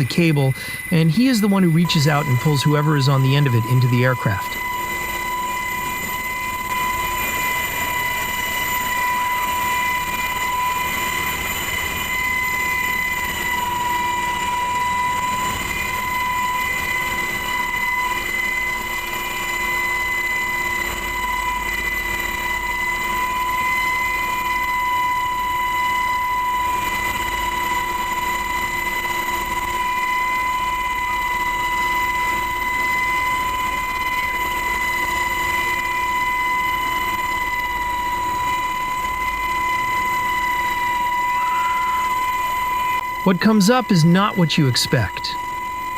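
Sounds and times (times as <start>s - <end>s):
constant high whine: 0.0s - 45.9s
helicopter rotor and engine noise: 0.0s - 45.9s.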